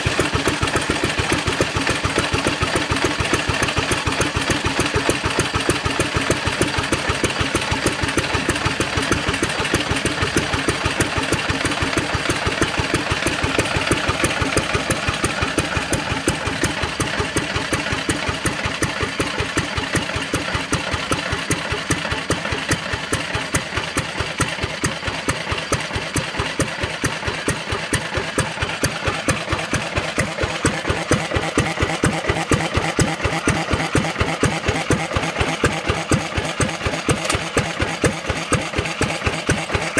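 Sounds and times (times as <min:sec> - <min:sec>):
kerosene engine running: 0:00.0 - 0:39.9.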